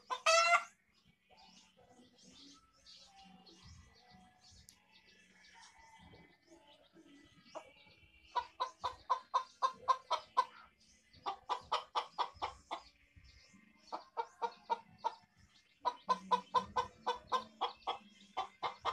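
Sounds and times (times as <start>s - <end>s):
chicken clucking: 0.0s - 18.9s.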